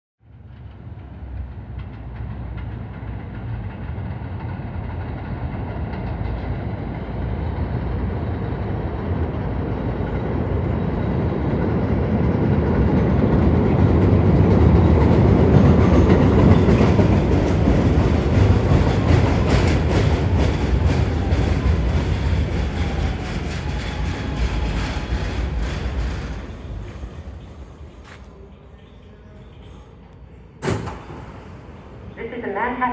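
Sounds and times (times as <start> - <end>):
subway train rumbling: 0.2 - 32.9.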